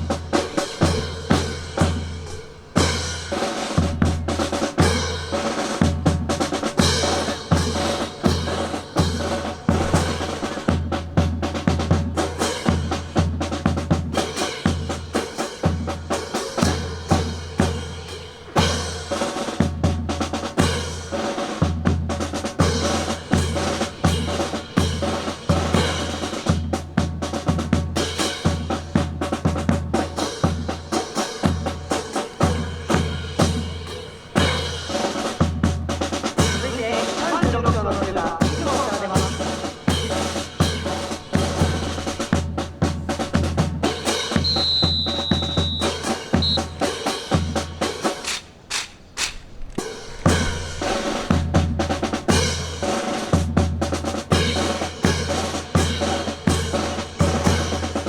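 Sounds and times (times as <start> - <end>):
drum section fast rhythm: 0.0 - 58.0.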